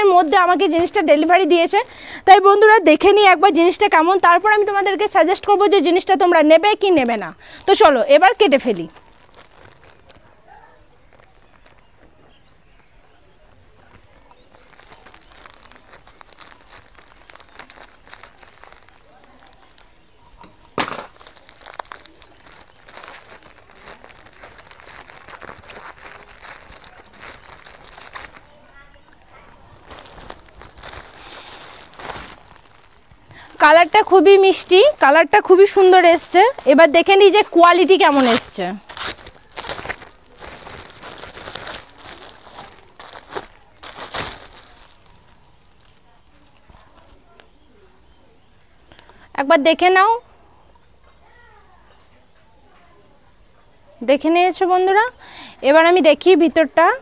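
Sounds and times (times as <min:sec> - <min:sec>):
plastic bag crinkling: 0:00.0 - 0:47.5.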